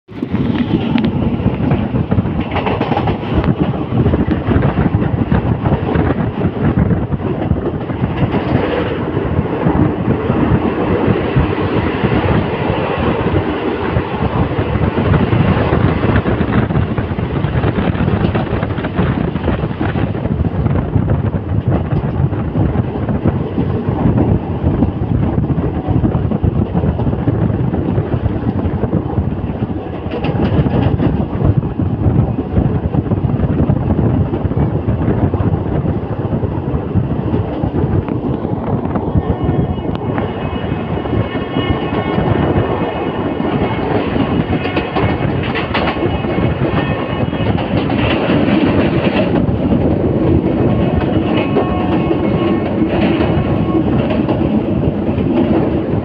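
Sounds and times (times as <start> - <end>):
train carriage rumbling and rattling: 0.0 - 56.0.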